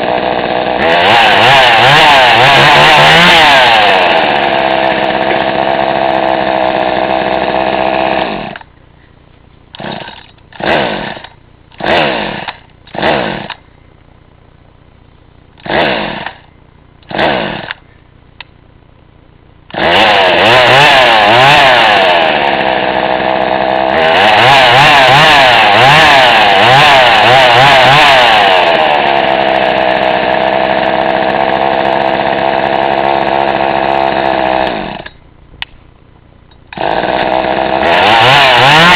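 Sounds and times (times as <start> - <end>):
chainsaw engine revving and idling: 0.0 - 8.7, 9.7 - 13.6, 15.6 - 17.8, 19.7 - 35.2, 36.7 - 38.9.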